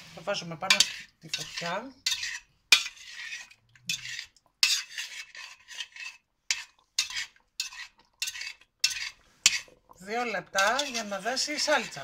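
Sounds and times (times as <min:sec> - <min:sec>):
utensil scraping and clinking a pot: 0:00.0 - 0:12.0.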